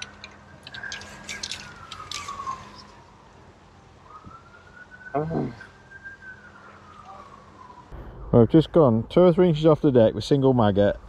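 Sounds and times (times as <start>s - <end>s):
distant wailing siren: 0.0s - 11.0s.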